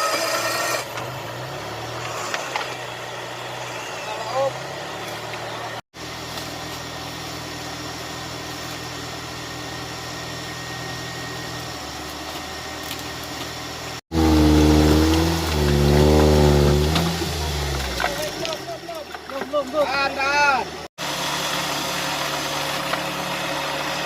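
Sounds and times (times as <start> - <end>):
vehicle engine running: 0.9 - 24.0.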